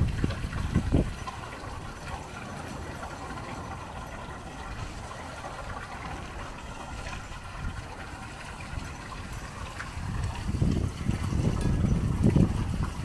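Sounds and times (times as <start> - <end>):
steady outdoor rushing noise: 0.0 - 13.0
wind buffeting microphone: 0.0 - 13.0.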